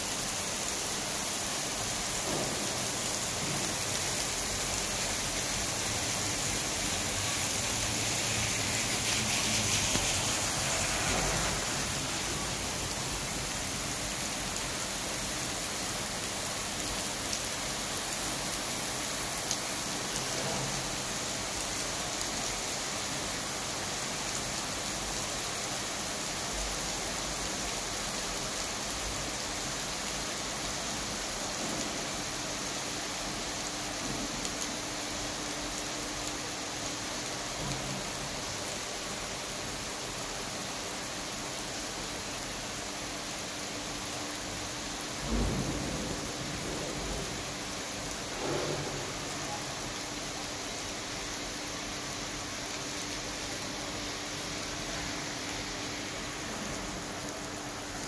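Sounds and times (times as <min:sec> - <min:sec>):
rain on asphalt road: 0:00.0 - 0:58.0.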